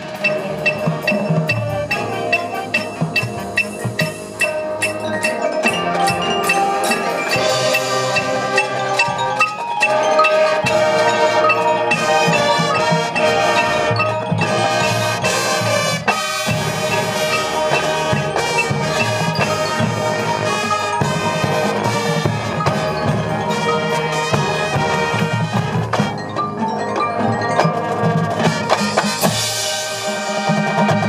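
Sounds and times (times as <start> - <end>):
mallet percussion runs: 0.0 - 31.0
marching band music: 0.0 - 31.0.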